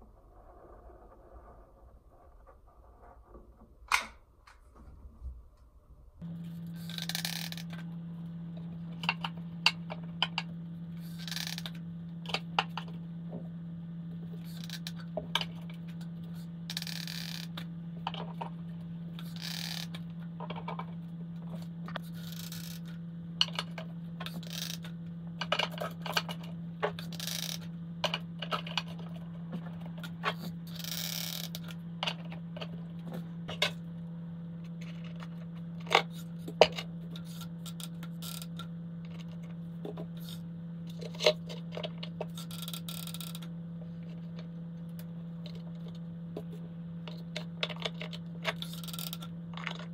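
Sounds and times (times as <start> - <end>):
low hum: 0.0 - 49.9.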